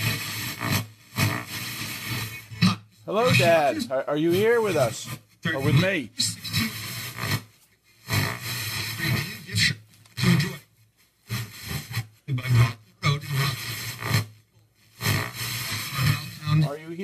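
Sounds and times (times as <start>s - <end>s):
garbled voice-like radio bursts: 0.0s - 7.5s, 8.1s - 10.7s, 11.3s - 14.3s, 15.0s - 17.0s.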